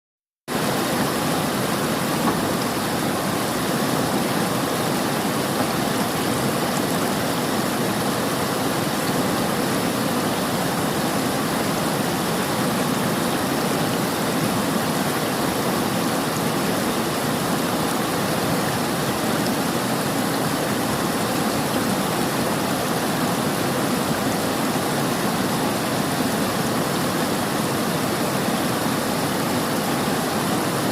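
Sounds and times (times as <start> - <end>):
river water rushing: 0.5 - 30.9.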